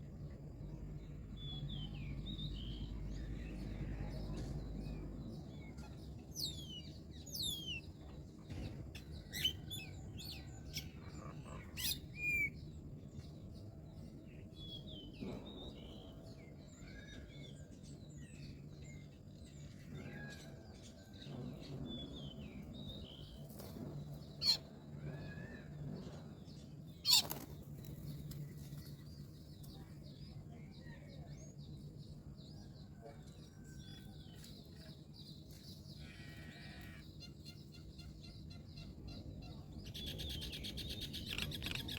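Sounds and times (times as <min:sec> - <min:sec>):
steady low hum: 0:00.0 - 0:41.9
small birds chirping: 0:00.1 - 0:41.9.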